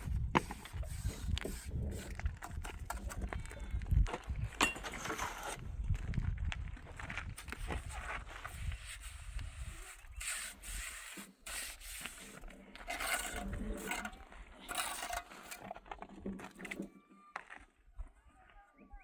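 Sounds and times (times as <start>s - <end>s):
tool scraping mortar: 0.0s - 5.7s, 7.2s - 17.0s.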